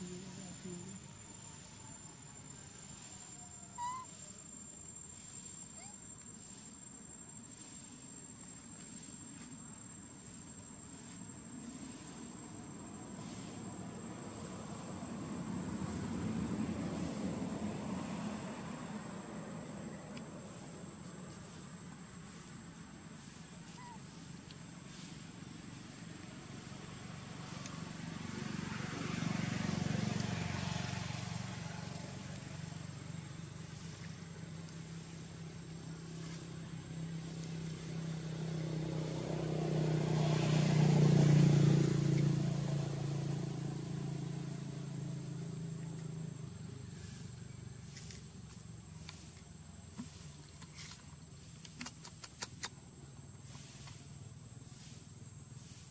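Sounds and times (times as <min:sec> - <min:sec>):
vehicles passing by: 0:07.3 - 0:55.9.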